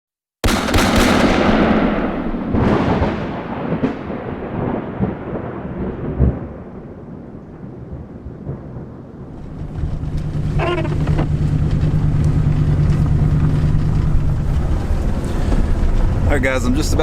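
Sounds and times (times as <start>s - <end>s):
thunder rumbling: 0.4s - 17.0s.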